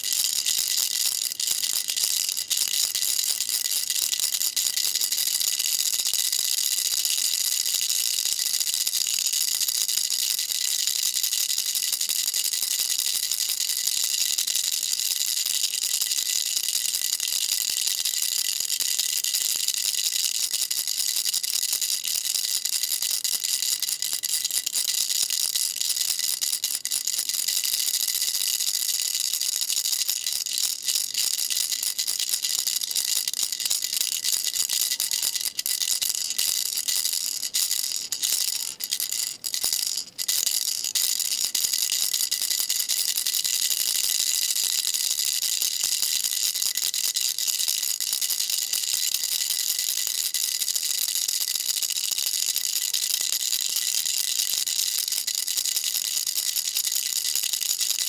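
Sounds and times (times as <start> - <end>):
baby rattle shaking: 0.0 - 58.0.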